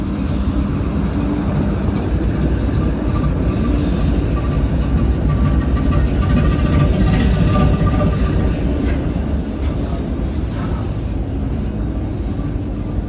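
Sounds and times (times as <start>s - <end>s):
diesel engine low rumble: 0.0s - 13.0s.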